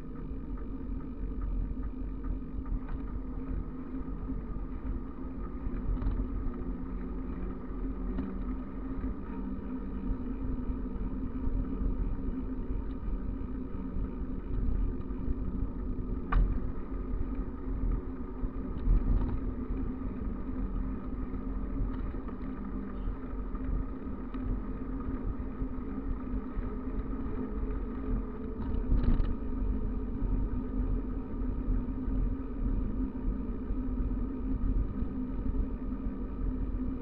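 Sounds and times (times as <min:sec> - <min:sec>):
wind rumble on microphone: 0:00.0 - 0:37.0
bicycle tyres rolling on asphalt: 0:00.3 - 0:36.9.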